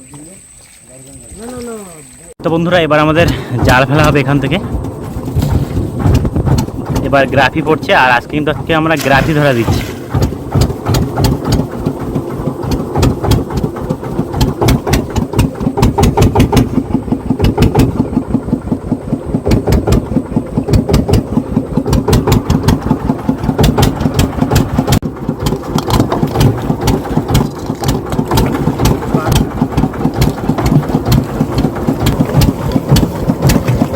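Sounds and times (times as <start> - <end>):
boat engine chugging: 0.0 - 33.9.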